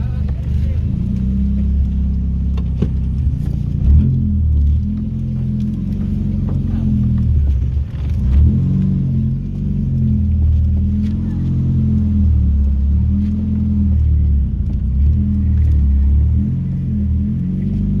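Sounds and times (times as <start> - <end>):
car engine deep rumble: 0.0 - 18.0.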